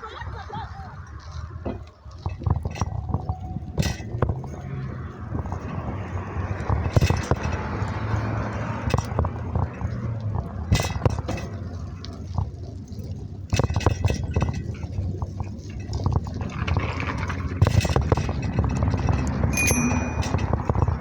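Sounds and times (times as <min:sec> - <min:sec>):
bike low rumble: 0:00.0 - 0:21.0.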